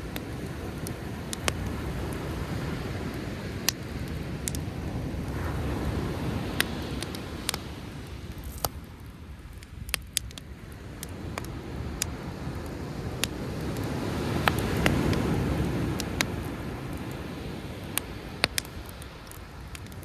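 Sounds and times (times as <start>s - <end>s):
campfire crackling and popping: 0.0s - 20.0s
sea waves: 0.0s - 20.0s.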